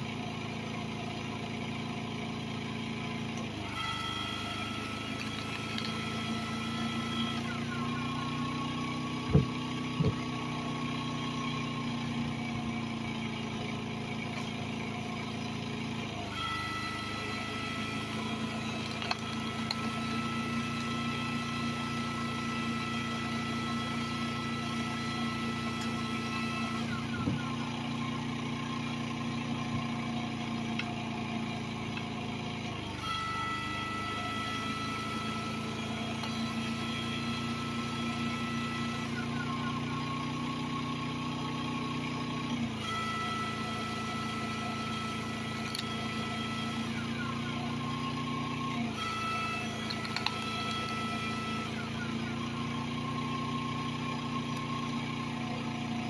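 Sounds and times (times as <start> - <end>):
generator engine running: 0.0 - 56.0
log splitter motor whine: 0.0 - 56.0.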